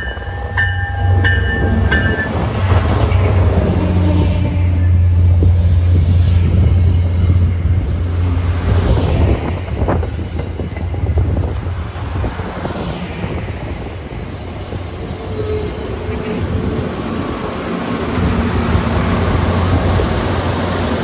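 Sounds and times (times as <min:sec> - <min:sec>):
wind on microphone: 0:00.0 - 0:17.4
diesel train passing: 0:00.0 - 0:21.0.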